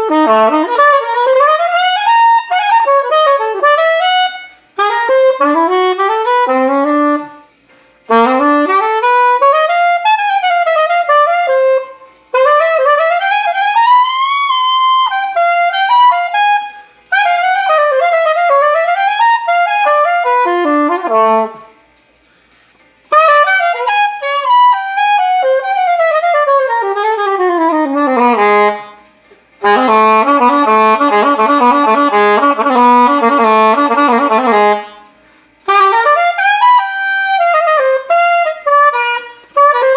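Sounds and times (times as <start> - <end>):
solo wind instrument playing: 0.0 - 21.8, 23.1 - 39.9.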